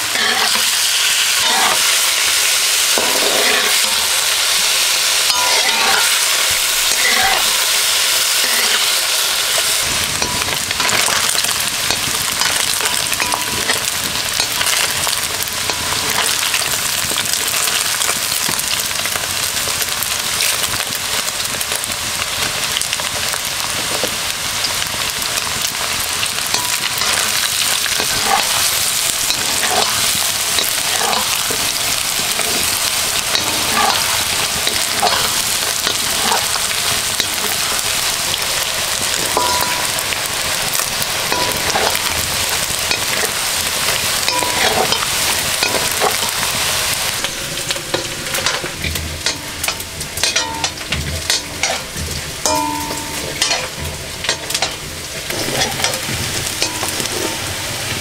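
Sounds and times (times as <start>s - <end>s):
spatula scraping a wok: 0.0s - 18.8s, 24.6s - 58.0s
chicken sizzling in oil: 0.0s - 58.0s.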